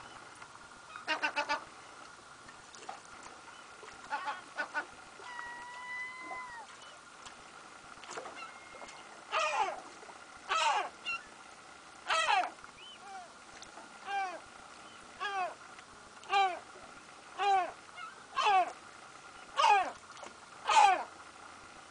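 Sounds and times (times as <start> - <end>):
seabird calling: 0.0 - 1.8, 3.3 - 7.1, 7.8 - 21.6.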